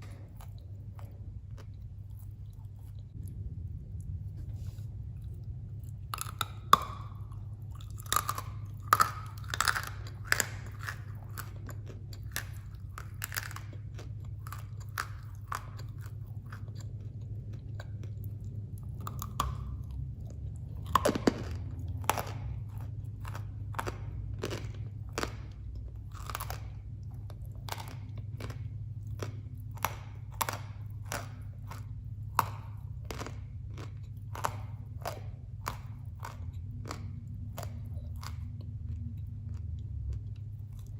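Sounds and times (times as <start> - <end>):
chewing hard clay crunches: 0.0 - 3.4, 4.0 - 40.9
steady low hum: 0.0 - 40.9.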